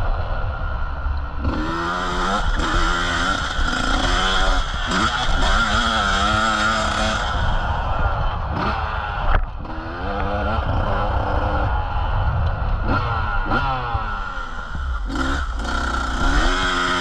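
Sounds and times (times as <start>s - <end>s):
motocross bike engine revving: 1.4s - 17.0s.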